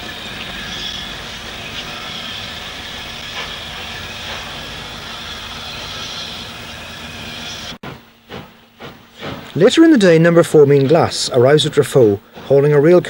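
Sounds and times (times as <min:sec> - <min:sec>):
low hum: 0:00.0 - 0:10.7
steam locomotive hissing: 0:00.0 - 0:13.0.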